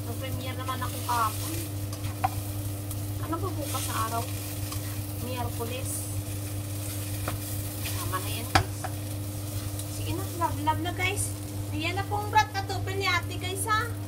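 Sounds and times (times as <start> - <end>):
potatoes sizzling in frying pan: 0.0 - 14.0.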